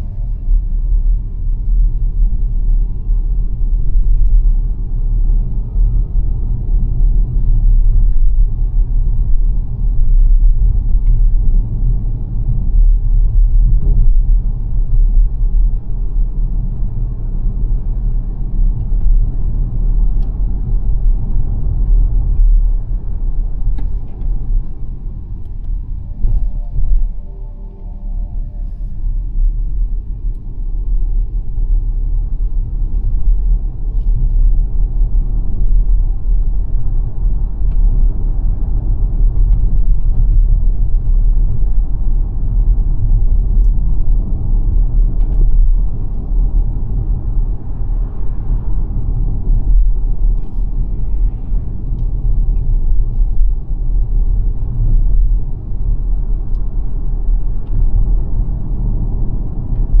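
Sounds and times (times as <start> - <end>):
road and tyre rumble: 0.0 - 60.0.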